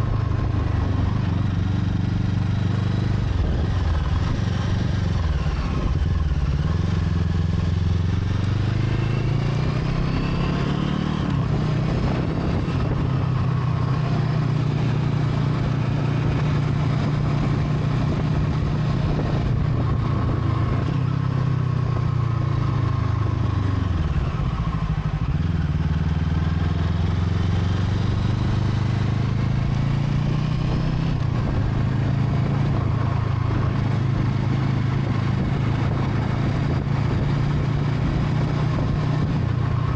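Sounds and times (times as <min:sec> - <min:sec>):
parallel-twin motorcycle engine running: 0:00.0 - 0:39.9.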